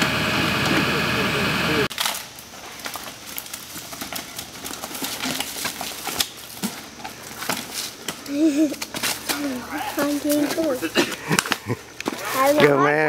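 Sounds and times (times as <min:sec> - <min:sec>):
mountain bikes rattling over rocks: 0:01.9 - 0:12.9.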